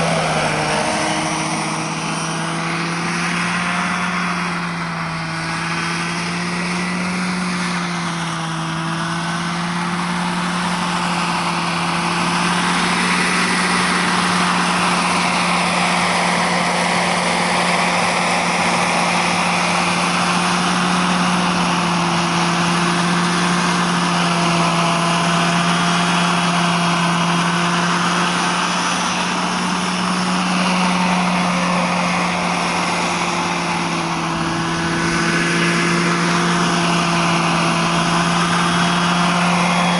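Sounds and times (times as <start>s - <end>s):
helicopter rotor noise: 0.0s - 39.9s
model helicopter motor drone: 0.0s - 39.9s.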